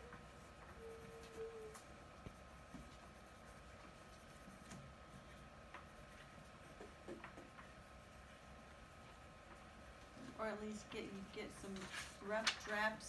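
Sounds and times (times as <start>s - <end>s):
faint high hum: 0.0s - 13.0s
pencils scratching on paper: 0.0s - 13.0s.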